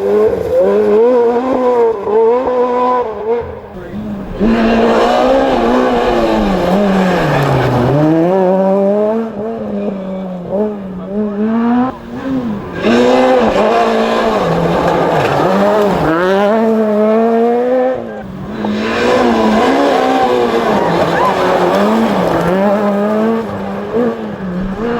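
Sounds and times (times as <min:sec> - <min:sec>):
car engine revving: 0:00.0 - 0:24.9.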